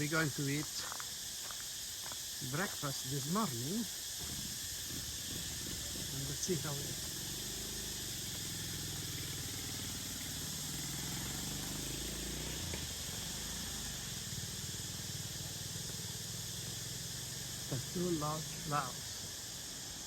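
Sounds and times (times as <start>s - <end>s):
high hiss: 0.0s - 20.0s.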